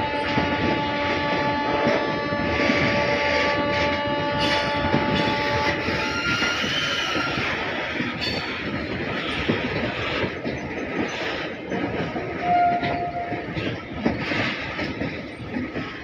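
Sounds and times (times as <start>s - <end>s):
train wheels clattering over rail joints: 0.0s - 16.0s.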